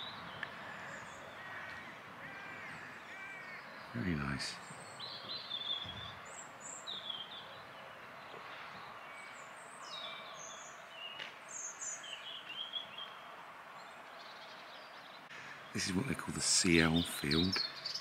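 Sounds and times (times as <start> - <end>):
outdoor ambience hiss: 0.0 - 18.0
small birds singing: 0.0 - 18.0.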